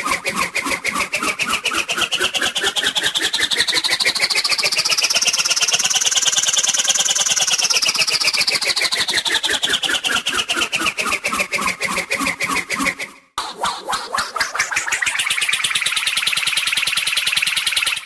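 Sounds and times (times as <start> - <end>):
cartoon whoosh fluttering whir: 0.0 - 18.0.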